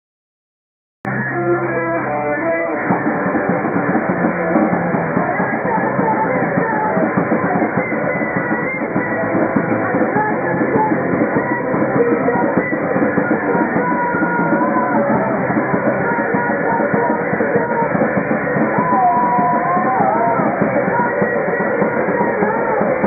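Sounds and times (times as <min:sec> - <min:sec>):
drums: 0:01.0 - 0:23.0
guitar: 0:01.0 - 0:23.0
muffled rock band playing: 0:01.1 - 0:23.0.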